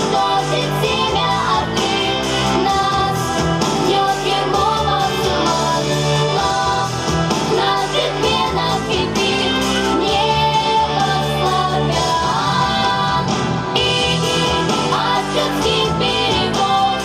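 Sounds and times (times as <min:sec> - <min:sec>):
pop song with singing: 0:00.0 - 0:17.0
steady bass line: 0:00.0 - 0:17.0.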